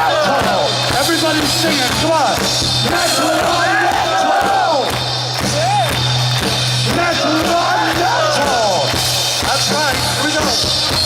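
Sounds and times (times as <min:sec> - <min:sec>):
drums: 0:00.0 - 0:11.0
heavy metal band playing live: 0:00.0 - 0:11.0.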